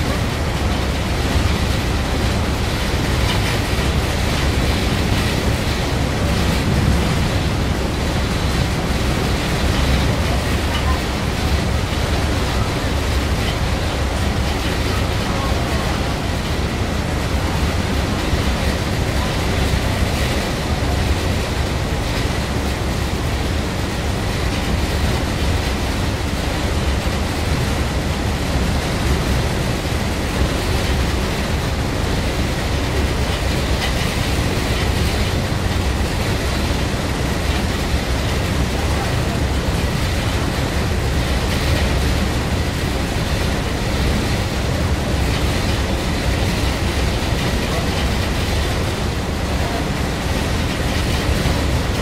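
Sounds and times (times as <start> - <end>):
boat engine rumble: 0.0 - 52.0
wind and water rushing: 0.0 - 52.0.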